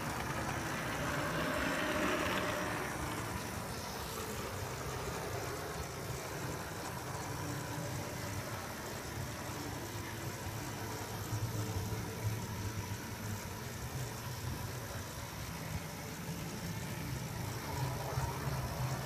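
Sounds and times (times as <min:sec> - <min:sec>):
model train motor hum: 0:00.0 - 0:19.0
wheels on rails: 0:00.0 - 0:19.0.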